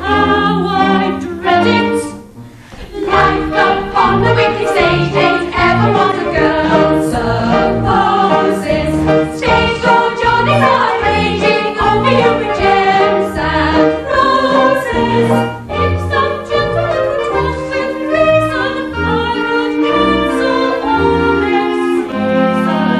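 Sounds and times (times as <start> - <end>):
theatre pit orchestra: 0.0 - 22.9
women's chorus singing: 0.0 - 22.9.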